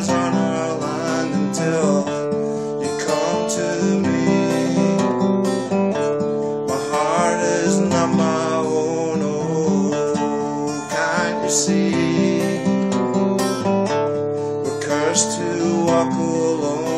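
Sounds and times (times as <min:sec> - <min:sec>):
man singing: 0:00.0 - 0:13.1, 0:14.6 - 0:16.9
acoustic guitar strumming: 0:00.0 - 0:16.9.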